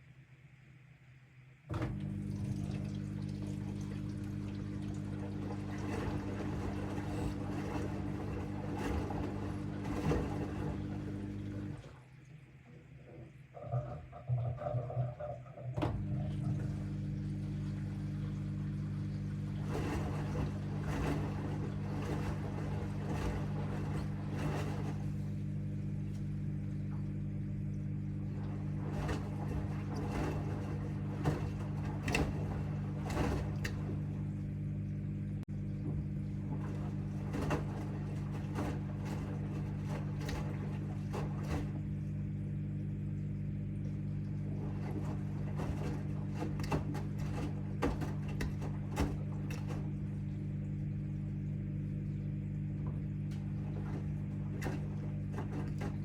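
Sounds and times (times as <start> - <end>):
washing machine motor hum: 0.0 - 56.0
load knocking and splashing: 1.7 - 12.0, 13.8 - 34.4, 35.5 - 42.4, 43.6 - 50.6, 52.6 - 56.0.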